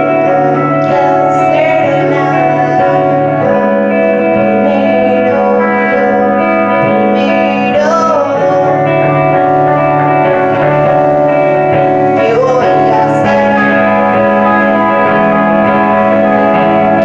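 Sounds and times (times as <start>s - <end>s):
electric guitars ringing chords: 0.0s - 17.0s
person singing: 0.0s - 17.0s.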